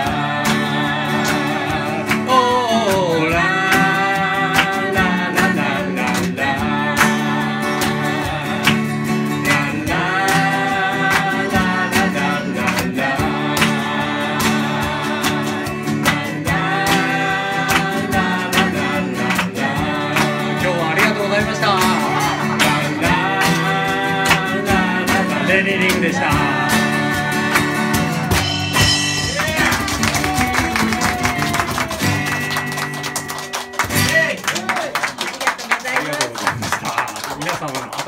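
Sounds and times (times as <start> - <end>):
man and woman singing: 0.0 - 33.8
strummed acoustic guitar: 0.0 - 34.5.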